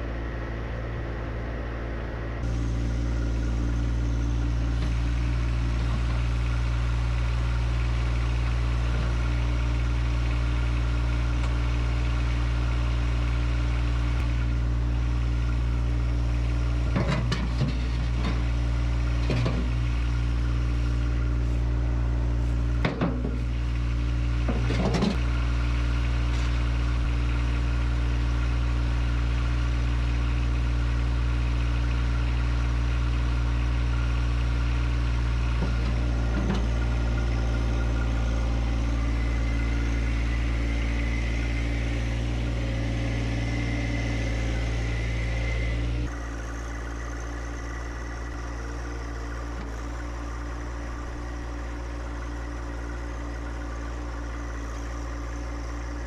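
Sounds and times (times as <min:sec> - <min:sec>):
diesel tractor idling: 0:00.0 - 0:56.0
tractor driving whine: 0:00.0 - 0:56.0.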